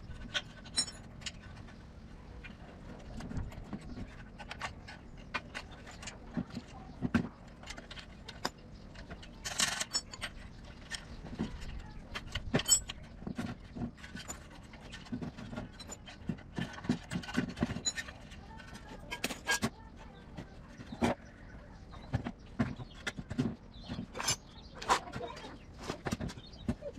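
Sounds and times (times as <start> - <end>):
metal tools clinking and scraping: 0.0 - 1.8, 2.4 - 26.9.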